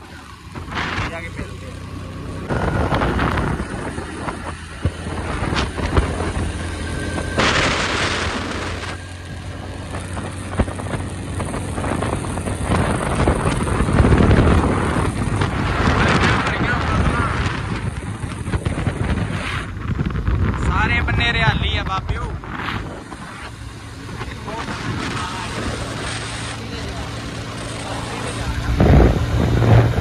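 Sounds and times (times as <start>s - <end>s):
motorcycle engine running: 0.0s - 30.0s
wind buffeting microphone: 2.2s - 30.0s.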